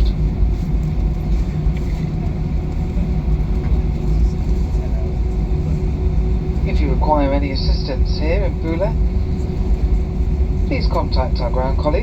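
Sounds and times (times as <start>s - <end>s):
airliner cabin low rumble: 0.0s - 12.0s.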